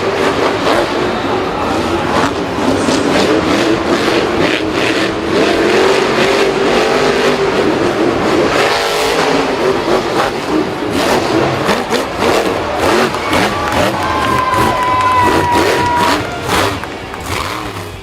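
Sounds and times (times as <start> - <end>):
racing engines revving: 0.0 - 18.0.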